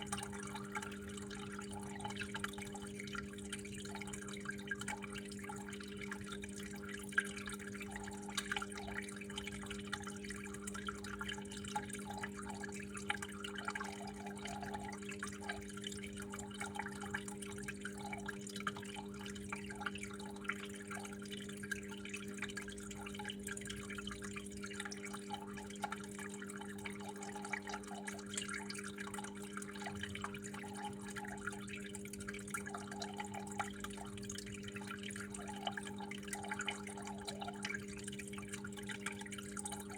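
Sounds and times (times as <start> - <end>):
water flowing and dripping: 0.0 - 39.9.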